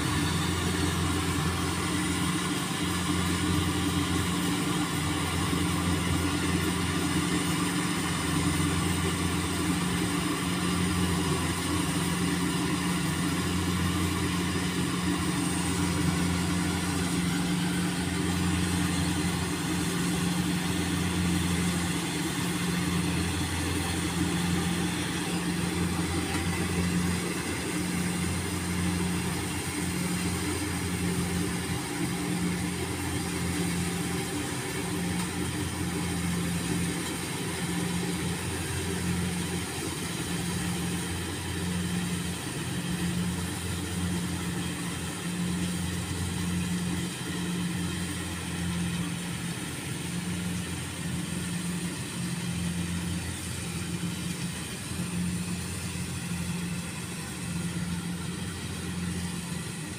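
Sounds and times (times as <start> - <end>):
combine harvester engine droning: 0.0 - 59.9.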